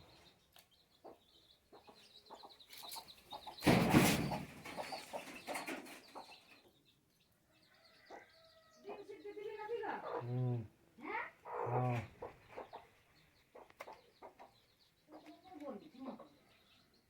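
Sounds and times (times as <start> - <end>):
chickens clucking: 0.0 - 6.9, 7.7 - 17.0.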